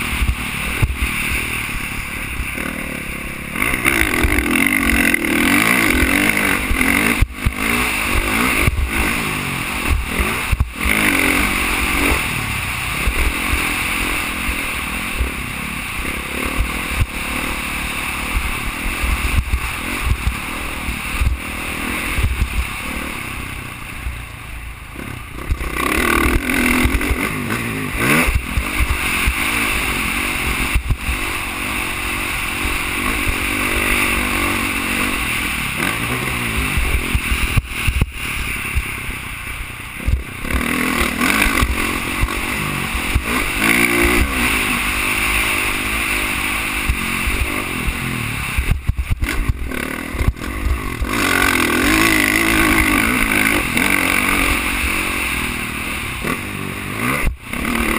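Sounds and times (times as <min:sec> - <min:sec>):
wind rumbling on microphone: 0:00.0 - 0:24.2, 0:25.2 - 0:57.9
dirt bike engine revving: 0:00.0 - 0:57.9.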